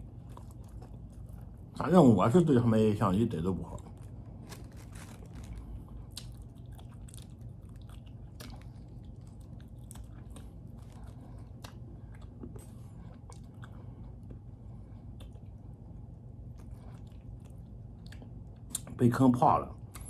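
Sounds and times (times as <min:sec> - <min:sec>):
person chewing meat: 0:00.0 - 0:01.8, 0:03.7 - 0:18.9
steady low hum: 0:00.0 - 0:20.0.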